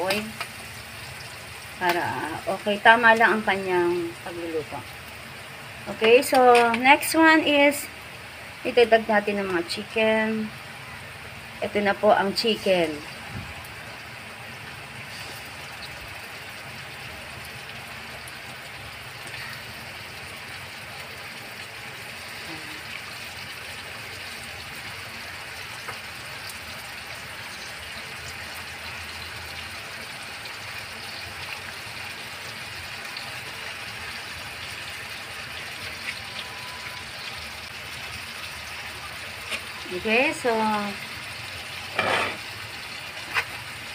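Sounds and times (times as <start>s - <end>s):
chicken sizzling in oil: 0.0s - 43.9s.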